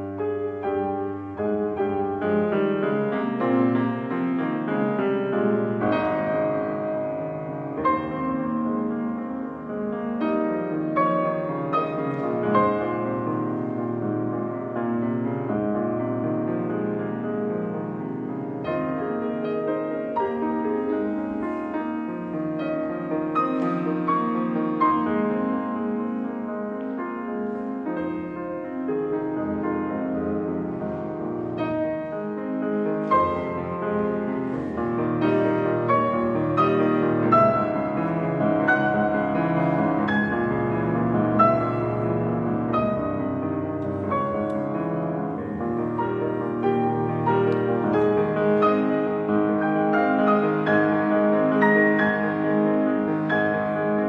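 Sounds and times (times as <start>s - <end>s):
grand piano chords: 0.0s - 54.0s.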